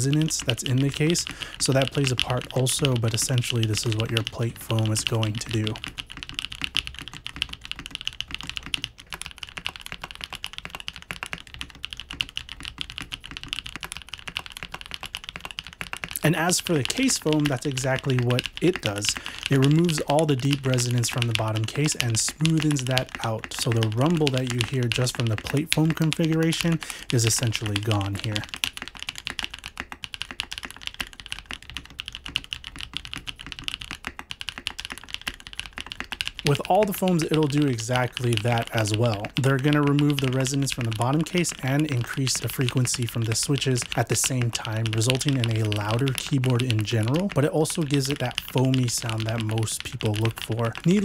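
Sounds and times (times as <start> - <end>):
mechanical keyboard typing: 0.0 - 51.0.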